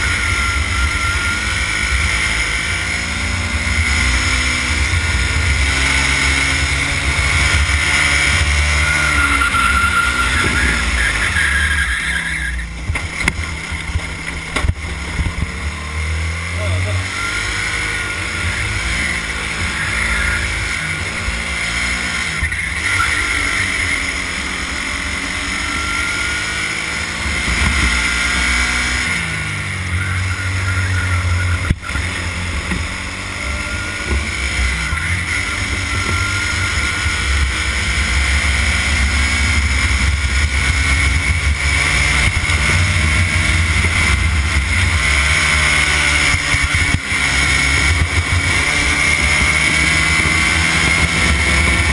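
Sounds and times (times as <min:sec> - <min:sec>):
racing kart engine: 0:00.0 - 0:51.9.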